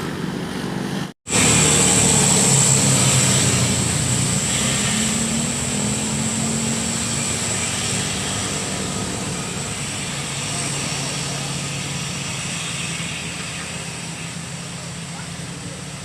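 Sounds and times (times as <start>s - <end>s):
diesel truck engine pulling hard: 0.0s - 16.0s.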